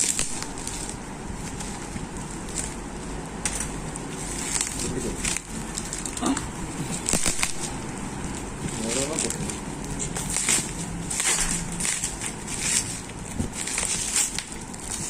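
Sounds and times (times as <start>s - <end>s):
packaging crinkling and clicking: 0.0s - 15.0s.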